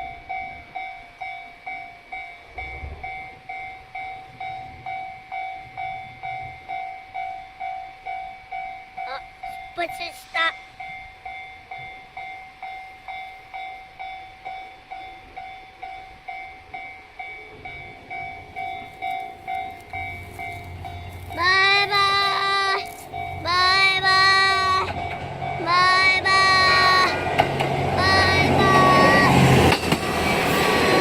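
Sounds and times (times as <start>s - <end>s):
diesel train rumble: 0.0s - 31.0s
level-crossing alarm bell ringing: 0.0s - 31.0s
long high-pitched tones: 0.0s - 31.0s.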